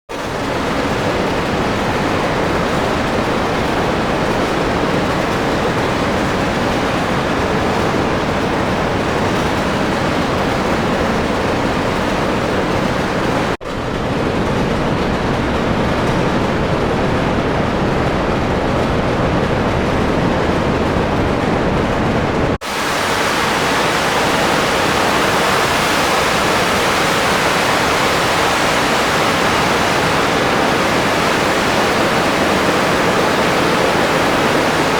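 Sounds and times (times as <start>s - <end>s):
light plane engine in flight: 0.1s - 34.9s
wind in open cockpit: 0.1s - 34.9s.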